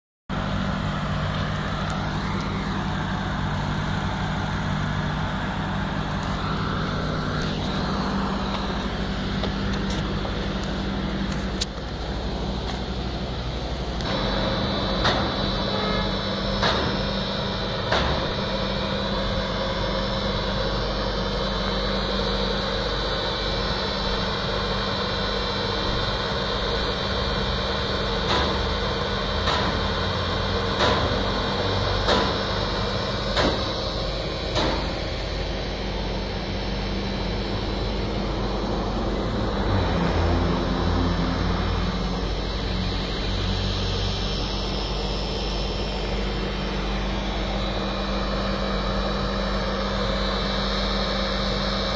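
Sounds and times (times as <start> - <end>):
heavy machinery low drone: 0.3 - 51.9
high steady whine: 0.3 - 51.9.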